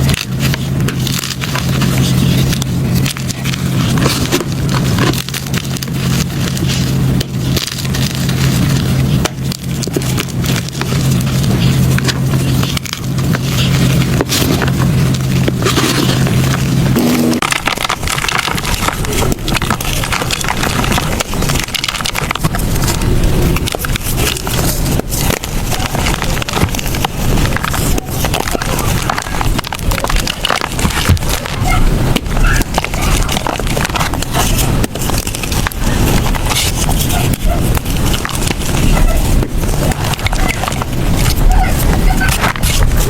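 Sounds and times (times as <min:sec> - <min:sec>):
chalk crunching by hand: 0:00.0 - 0:43.0.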